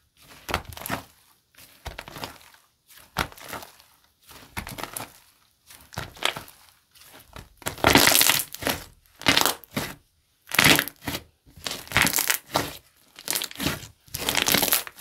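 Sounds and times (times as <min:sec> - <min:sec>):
slime squishing and crackling: 0:00.2 - 0:15.0.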